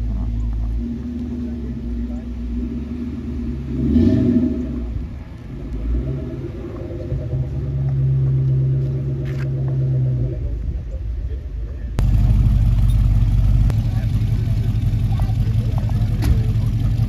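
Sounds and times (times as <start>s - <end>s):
engine revving: 0.0s - 10.5s, 12.0s - 17.0s
car engine rumbling: 0.0s - 17.0s.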